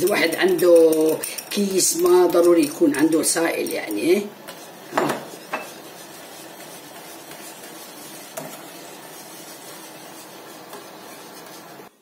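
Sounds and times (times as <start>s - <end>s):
whisk scraping in a metal pan: 0.0s - 12.0s.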